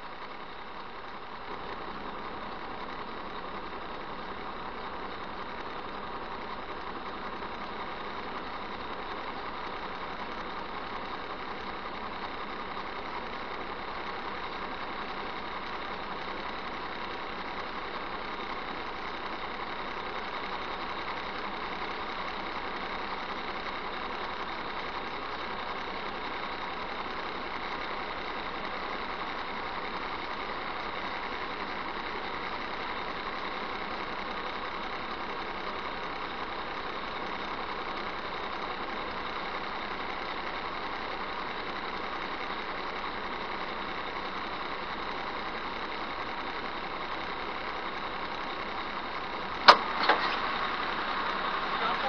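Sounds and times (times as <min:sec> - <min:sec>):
truck engine and cab noise: 0:00.0 - 0:52.0.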